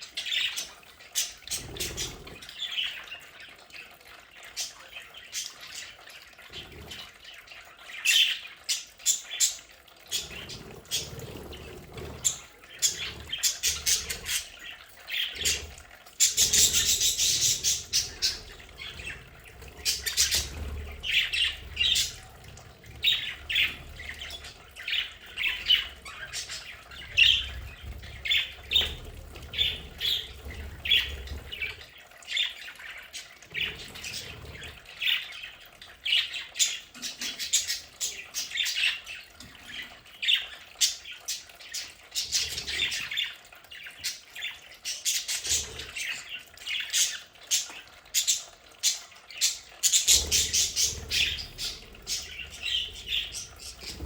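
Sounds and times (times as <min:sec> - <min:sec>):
budgerigars chirping and squawking: 0:00.0 - 0:03.8, 0:04.4 - 0:54.0.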